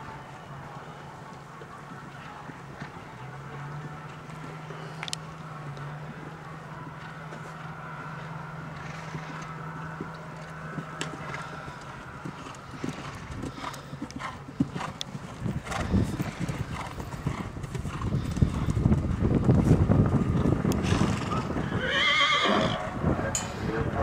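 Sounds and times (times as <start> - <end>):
horse hooves cantering on sand: 0.0 - 22.9.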